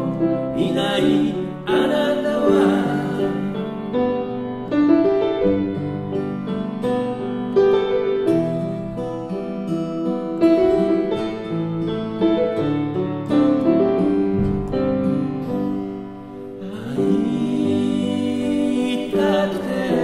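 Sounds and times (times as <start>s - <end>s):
slow ballad music: 0.0s - 20.0s.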